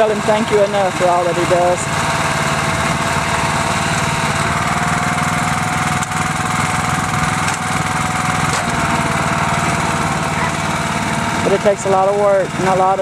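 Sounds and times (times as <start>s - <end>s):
small gasoline engine running: 0.0s - 13.0s
tiller churning soil: 0.0s - 13.0s.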